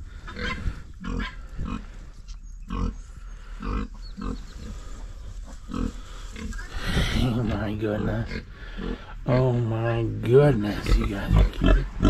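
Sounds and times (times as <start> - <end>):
pig grunting: 0.2 - 1.9, 2.7 - 12.0.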